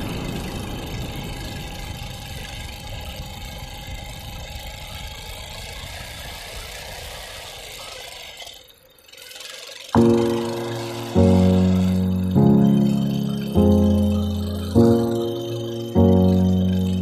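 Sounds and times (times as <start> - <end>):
small engine running: 0.1 - 17.0.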